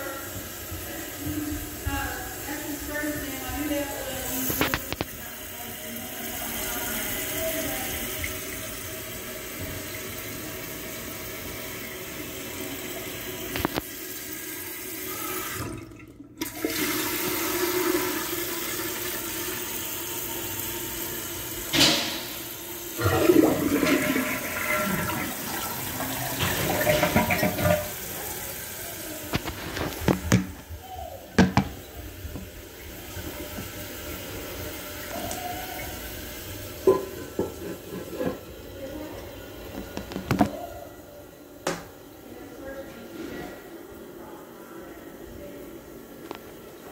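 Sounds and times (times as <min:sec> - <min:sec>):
toilet tank flushing and refilling: 0:00.0 - 0:46.9.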